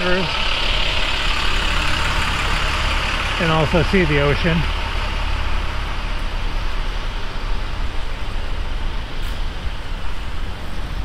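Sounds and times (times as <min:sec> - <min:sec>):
street traffic low rumble: 0:00.0 - 0:11.0.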